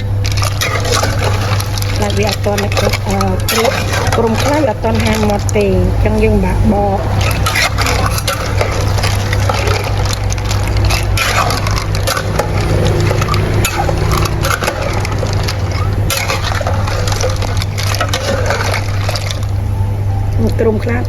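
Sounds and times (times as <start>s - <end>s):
shellfish shells cracking: 0.0s - 5.8s, 7.0s - 19.8s
steady low hum: 0.0s - 21.0s.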